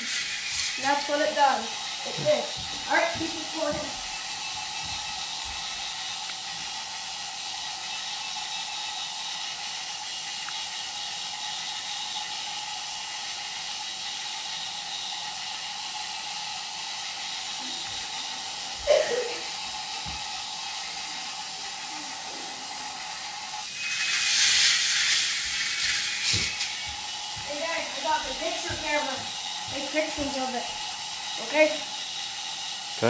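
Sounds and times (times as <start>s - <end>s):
toy chain lift humming and whirring: 0.0s - 33.0s.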